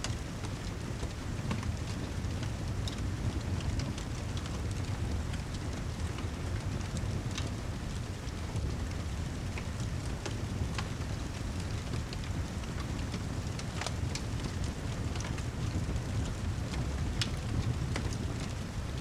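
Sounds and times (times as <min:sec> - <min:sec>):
fireplace crackling: 0:00.4 - 0:19.0
heavy rain rumbling: 0:02.2 - 0:19.0.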